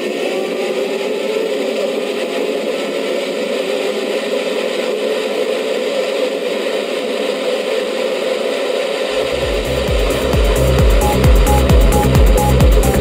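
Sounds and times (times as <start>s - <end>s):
car cruising at speed: 0.0s - 13.0s.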